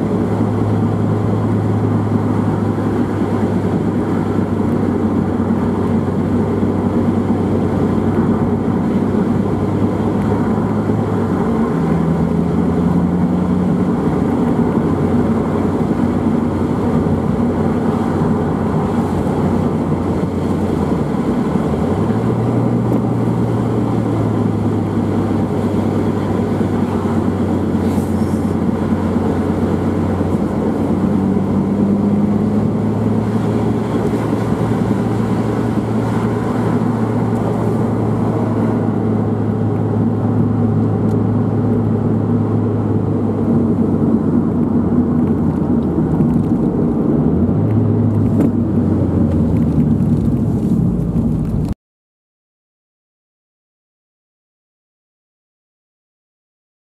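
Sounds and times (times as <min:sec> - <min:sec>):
car engine drone from inside: 0:00.0 - 0:51.8.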